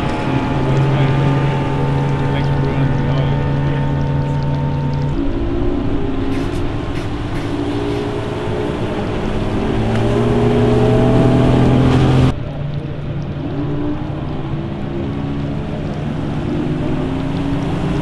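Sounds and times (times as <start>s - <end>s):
outboard motors passing: 0.0s - 18.0s.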